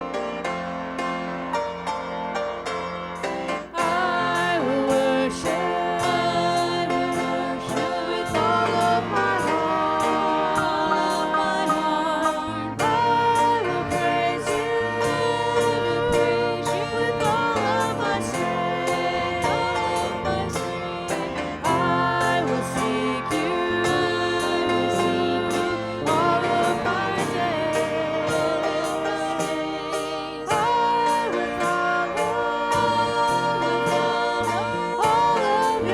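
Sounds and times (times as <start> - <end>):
song with sung melody: 0.0 - 35.9.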